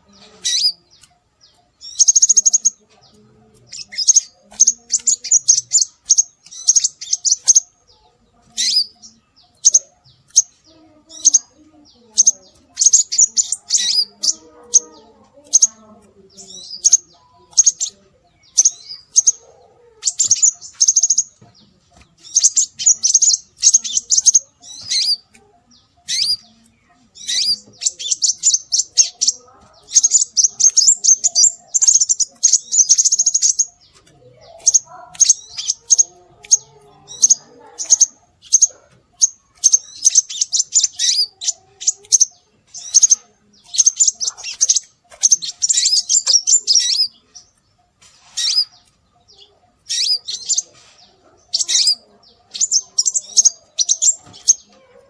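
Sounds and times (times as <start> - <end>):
bird chirping trills: 0.0 - 55.0.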